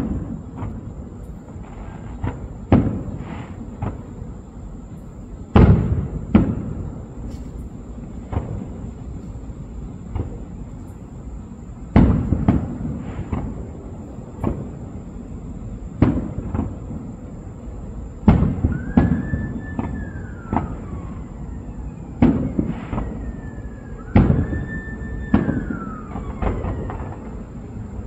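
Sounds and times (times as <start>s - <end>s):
fireworks bursting with booms: 0.0s - 28.0s
fireworks whistling: 0.0s - 28.0s.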